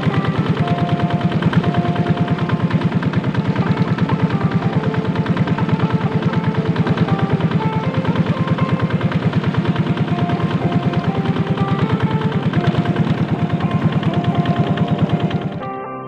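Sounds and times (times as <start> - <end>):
small engine running: 0.0 - 15.9.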